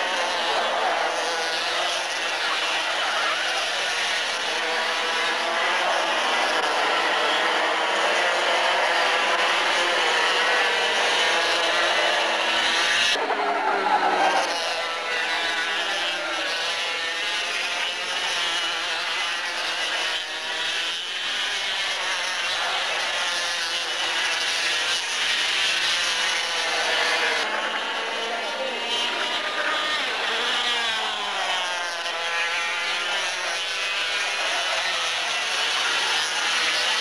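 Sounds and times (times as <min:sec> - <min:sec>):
kart engines revving: 0:00.0 - 0:37.0.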